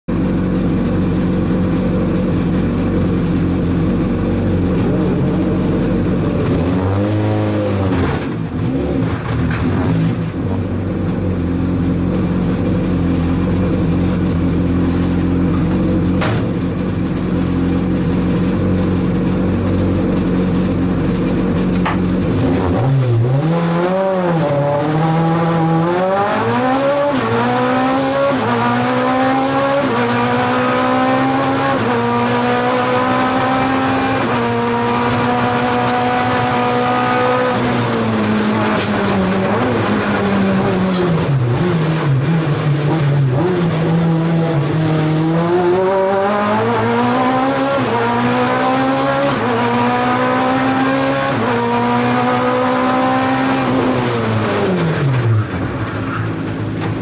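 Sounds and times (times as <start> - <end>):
car engine idling and revving: 0.0 - 57.0
car accelerating: 0.2 - 57.0.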